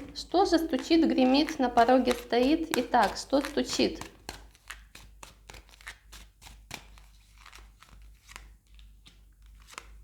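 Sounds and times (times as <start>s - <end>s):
cards clicking and rustling: 0.0s - 10.0s.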